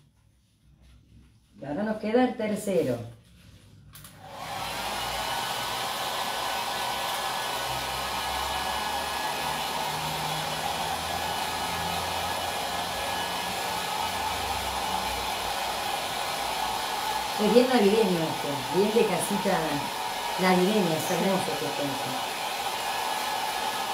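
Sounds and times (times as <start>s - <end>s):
hot-air dryer blowing: 4.0s - 23.9s.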